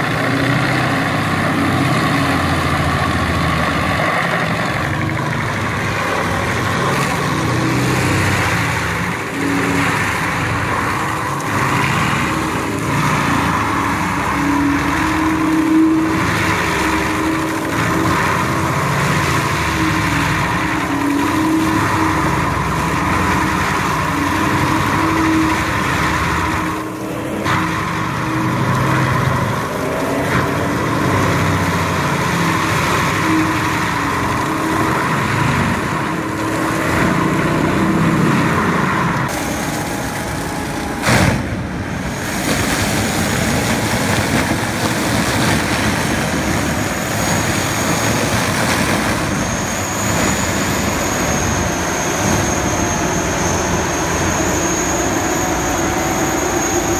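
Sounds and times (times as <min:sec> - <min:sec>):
diesel engine under load: 0:00.0 - 0:56.9
mulching rotor grinding: 0:00.0 - 0:56.9.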